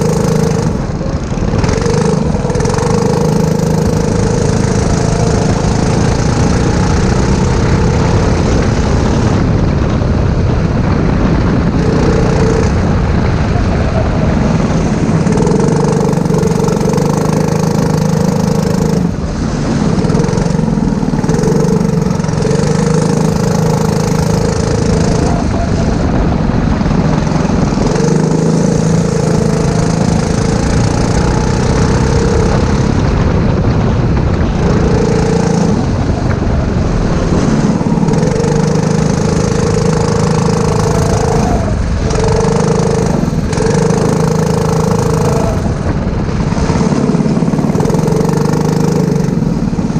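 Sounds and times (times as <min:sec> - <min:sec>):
go-kart engine: 0:00.0 - 0:49.9.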